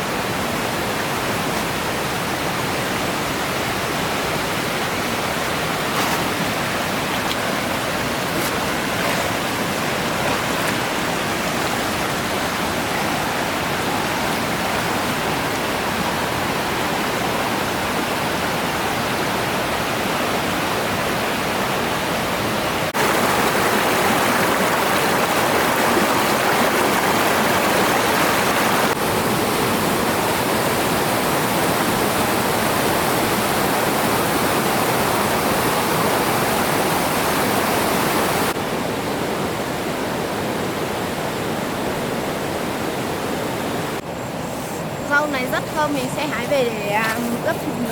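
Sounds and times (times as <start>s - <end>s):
waterfall rushing: 0.0s - 44.0s, 44.8s - 47.9s.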